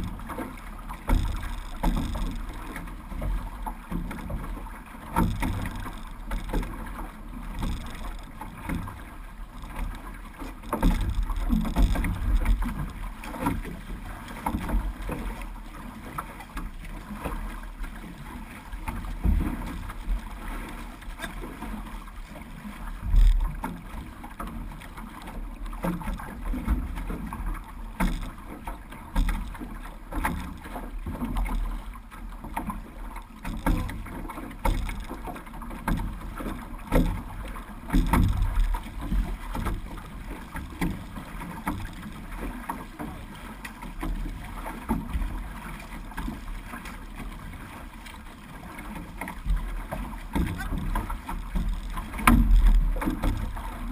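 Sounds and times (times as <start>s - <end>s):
paddles splashing in water: 0.0s - 53.9s
water rushing along hull: 0.0s - 53.9s.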